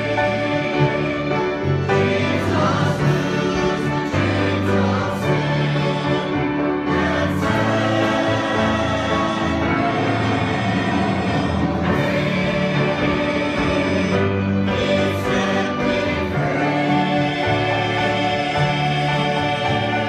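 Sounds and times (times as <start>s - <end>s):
choir singing gospel: 0.0s - 20.0s.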